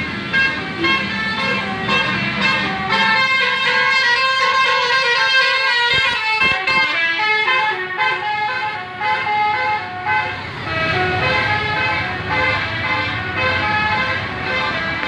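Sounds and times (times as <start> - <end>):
bus engine and road noise: 0.0 - 15.0
bus musical horn melody: 0.0 - 15.0.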